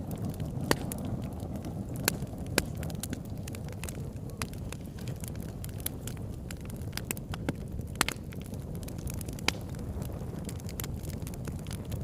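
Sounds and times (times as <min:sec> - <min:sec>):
campfire crackling: 0:00.0 - 0:12.0
fire pops: 0:00.0 - 0:12.0.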